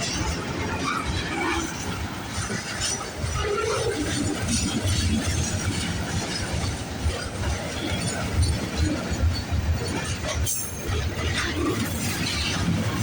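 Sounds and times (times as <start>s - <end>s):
freight train wheels rumbling on track: 0.0s - 13.0s
rattling and clicking of rail cars: 0.0s - 13.0s.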